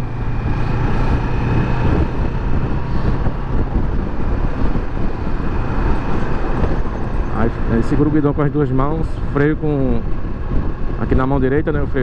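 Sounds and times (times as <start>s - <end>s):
wind rush and road noise: 0.0s - 12.0s.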